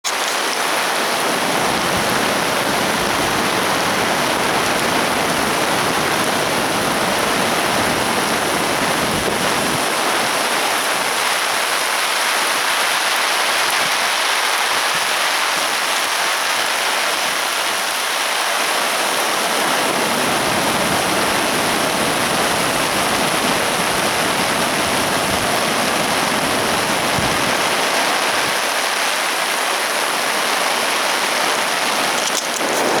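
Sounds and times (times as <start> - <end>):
flooded river rushing: 0.0 - 33.0.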